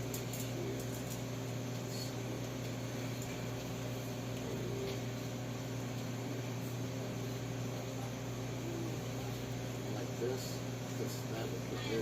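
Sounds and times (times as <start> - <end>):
fan-like noise: 0.0 - 12.0
low machine hum: 0.0 - 12.0.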